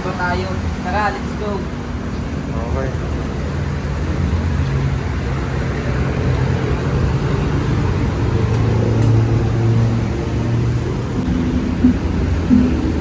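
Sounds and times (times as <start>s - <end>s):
road traffic: 0.0s - 13.0s
vehicle engine running: 0.0s - 13.0s.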